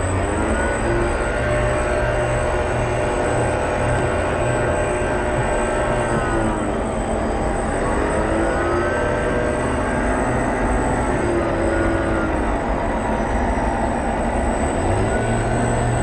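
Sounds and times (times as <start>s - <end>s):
model boat motors whining: 0.0s - 16.0s.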